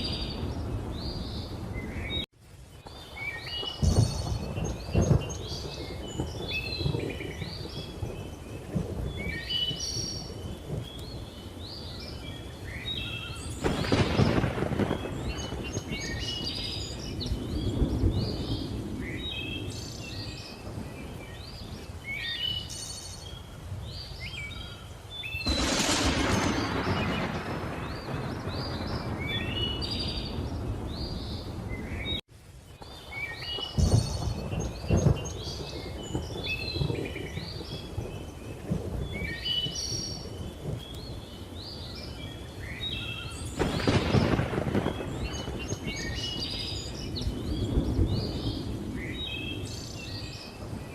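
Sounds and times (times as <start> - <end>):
thunder rumbling: 0.0 - 22.8, 25.4 - 32.2, 32.8 - 50.9
small birds chirping: 0.0 - 50.9.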